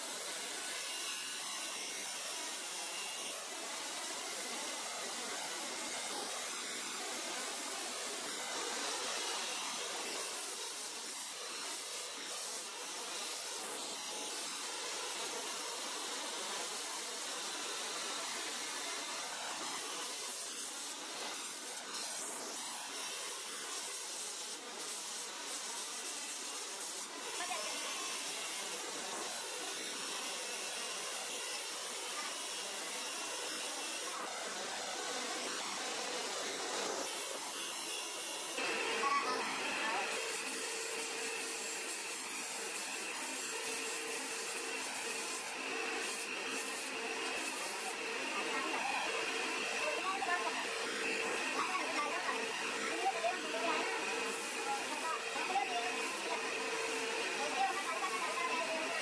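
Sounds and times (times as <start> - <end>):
belt grinder grinding metal: 0.0 - 59.0.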